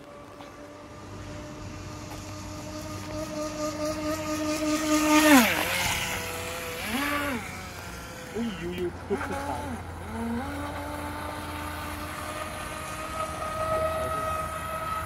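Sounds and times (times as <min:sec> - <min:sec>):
electric motor whine: 0:00.0 - 0:15.0
water rushing: 0:00.0 - 0:15.0.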